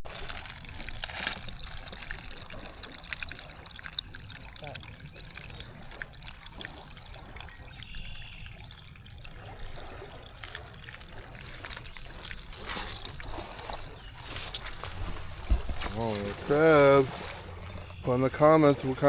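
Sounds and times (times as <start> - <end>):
water trickling and lapping: 0.0 - 19.0.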